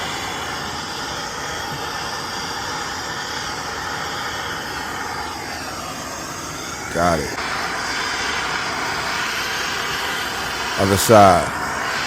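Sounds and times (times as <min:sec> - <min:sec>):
soldering torch flame hissing: 0:00.0 - 0:12.0.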